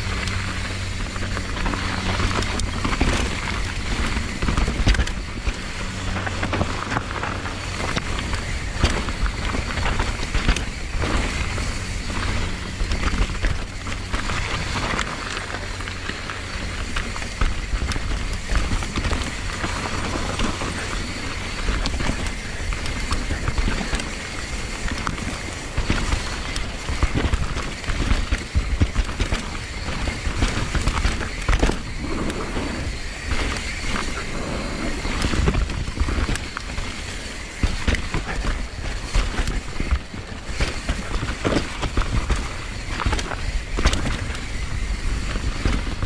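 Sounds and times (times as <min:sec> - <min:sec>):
bike tyre noise and rattling: 0:00.0 - 0:46.0
wind on microphone: 0:00.0 - 0:46.0.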